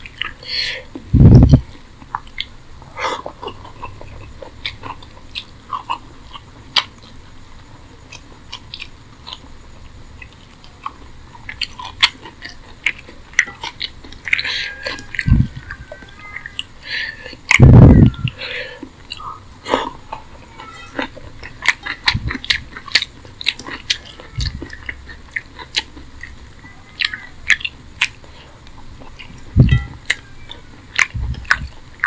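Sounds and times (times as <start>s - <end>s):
food being chewed: 0.0s - 32.0s.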